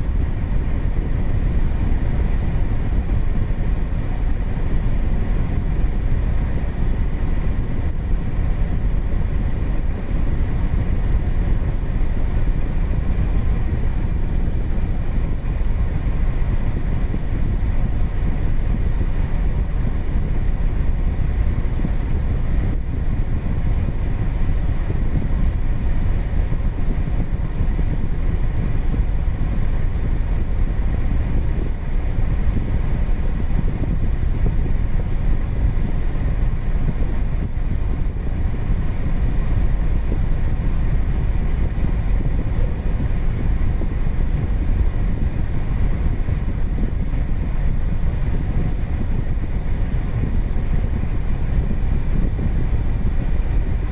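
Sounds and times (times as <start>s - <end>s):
car air conditioning blower: 0.0s - 53.9s.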